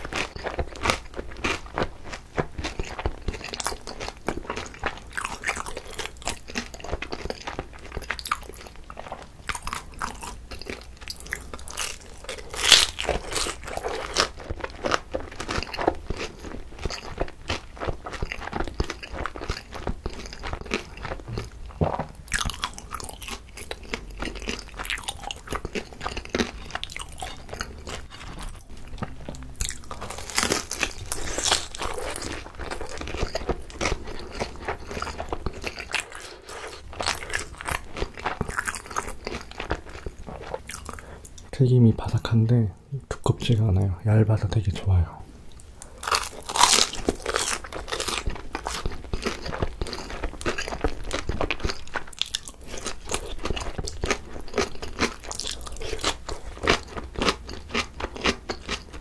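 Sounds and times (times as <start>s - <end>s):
crunchy chewing of fried dumplings: 0.0s - 42.1s, 45.5s - 59.0s.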